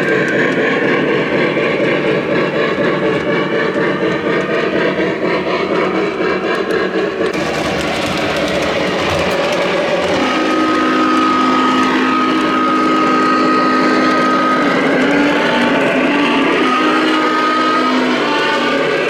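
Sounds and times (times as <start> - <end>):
model train wheels rumbling on track: 0.0 - 19.0
model train steam sound effects: 0.2 - 19.0.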